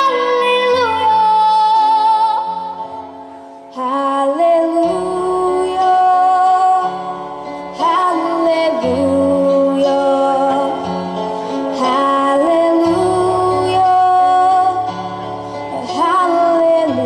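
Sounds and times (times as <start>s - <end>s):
woman singing: 0.0s - 3.1s, 3.7s - 11.1s, 11.7s - 17.0s.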